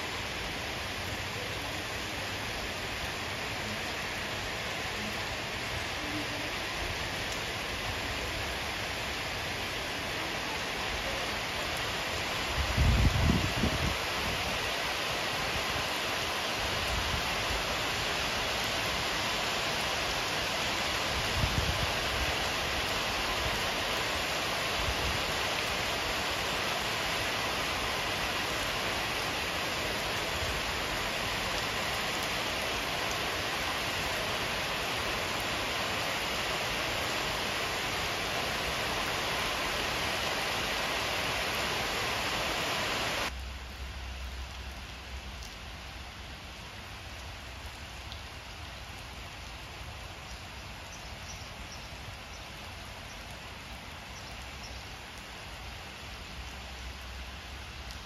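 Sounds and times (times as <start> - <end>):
heavy rain splashing into water: 0.0 - 58.0.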